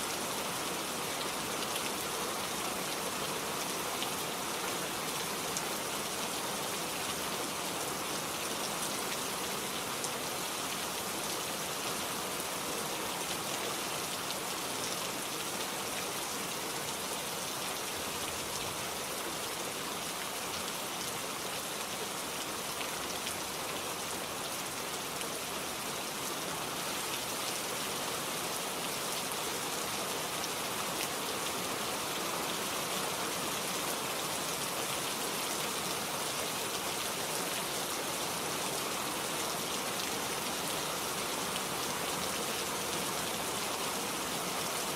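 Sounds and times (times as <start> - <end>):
rain falling on foliage: 0.0 - 44.9.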